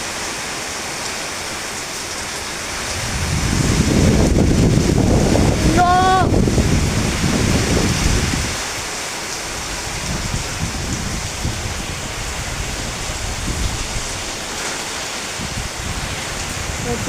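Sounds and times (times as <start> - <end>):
strong wind gusting: 2.1 - 17.0
wind buffeting microphone: 2.2 - 17.0.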